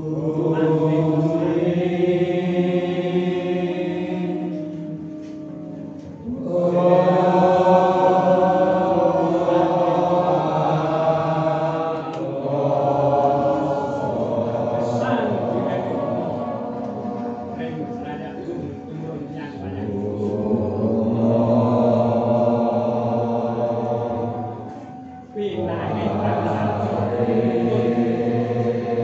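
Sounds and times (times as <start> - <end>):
voices chanting together: 0.0 - 29.0.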